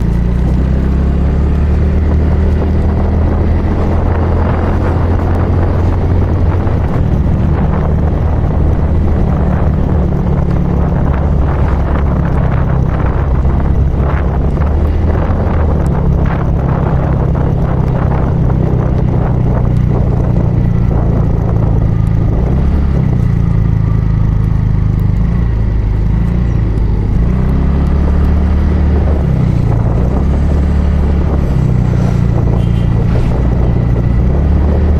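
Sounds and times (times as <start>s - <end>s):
motorcycle engine running: 0.0s - 34.9s
steady rushing noise: 0.0s - 34.9s.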